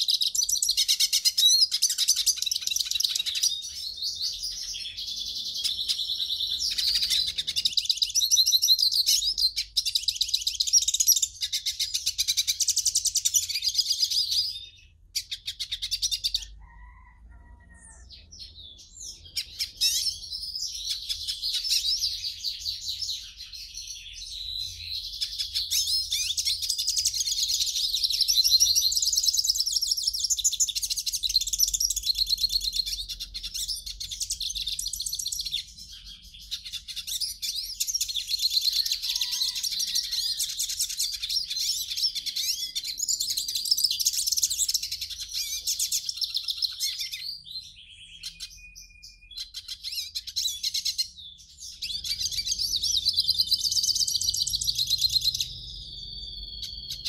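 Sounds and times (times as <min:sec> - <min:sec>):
goldfinch singing: 0:00.0 - 0:16.6, 0:18.2 - 0:57.0.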